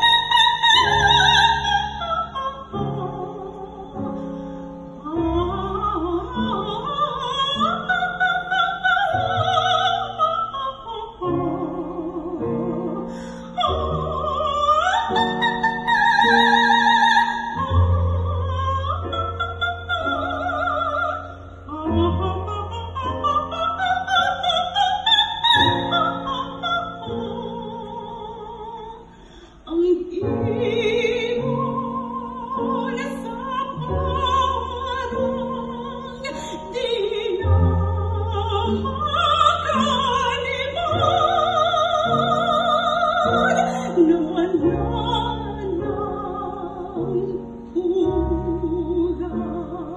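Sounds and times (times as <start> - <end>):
woman singing operatically: 0.0 - 4.2, 5.0 - 29.0, 29.7 - 49.9.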